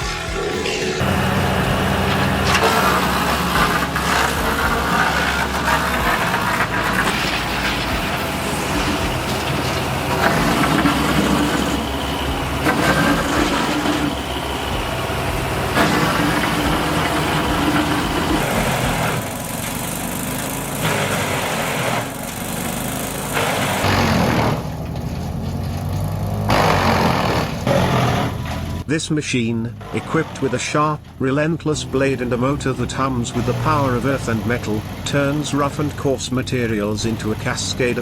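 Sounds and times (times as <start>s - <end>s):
wood chipper chipping: 0.0s - 38.0s.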